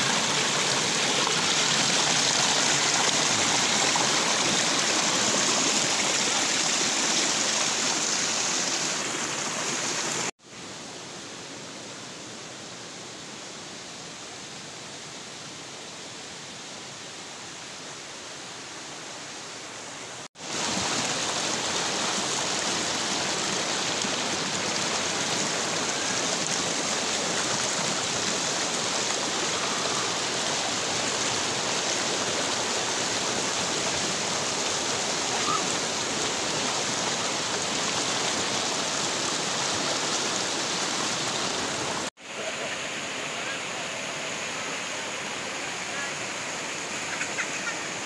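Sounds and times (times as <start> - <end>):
river rushing over boulders: 0.0 - 12.8, 16.4 - 48.0.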